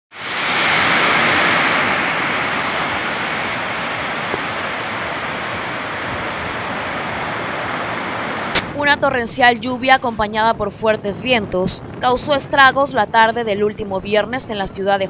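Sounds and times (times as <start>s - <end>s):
torrential rain in strong wind: 0.1s - 14.9s.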